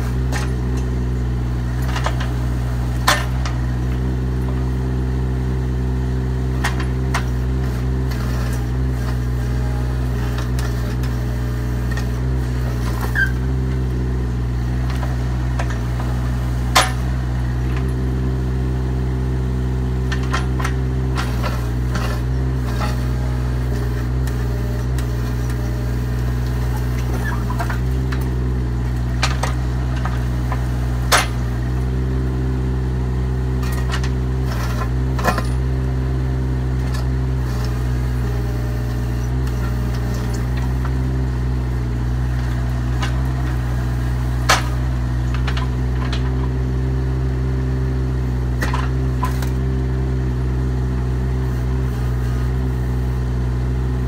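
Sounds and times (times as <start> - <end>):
diesel excavator engine running: 0.0 - 54.0.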